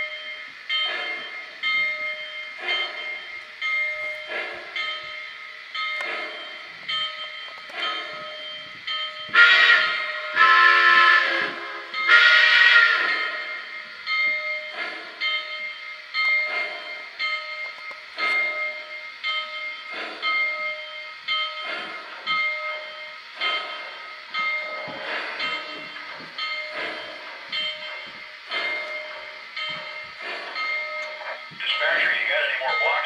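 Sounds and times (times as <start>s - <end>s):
model steam locomotive chuffing: 0.0s - 33.0s.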